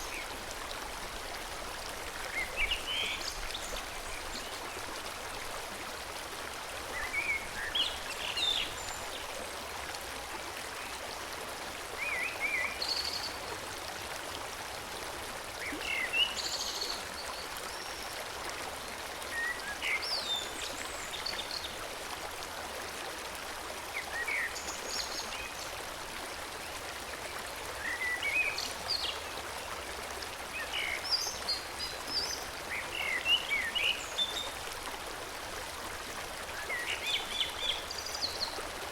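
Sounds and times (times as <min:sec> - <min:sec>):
forest stream flowing: 0:00.0 - 0:38.9.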